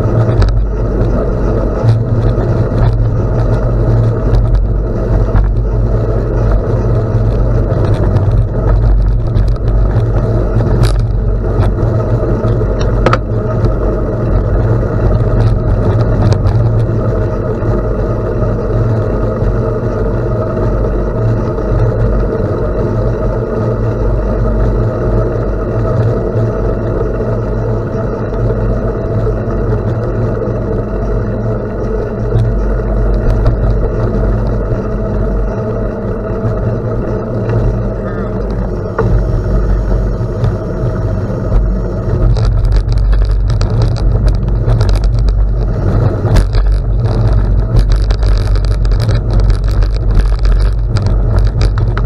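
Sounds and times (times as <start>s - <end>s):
bicycle tyres on gravel: 0.0s - 52.0s
wind rush on microphone: 0.0s - 52.0s.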